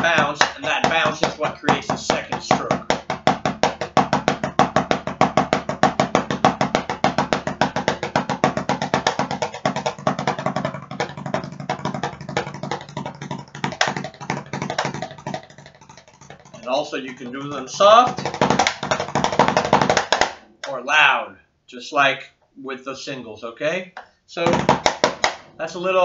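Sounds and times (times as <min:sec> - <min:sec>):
drumsticks tapping practice pad: 0:00.0 - 0:20.8, 0:24.0 - 0:25.5.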